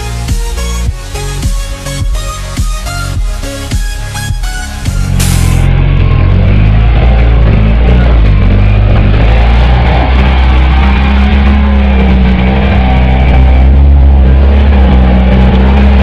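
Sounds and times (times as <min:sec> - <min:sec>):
loud background music: 0:00.0 - 0:16.0
car engine revving: 0:00.2 - 0:16.0.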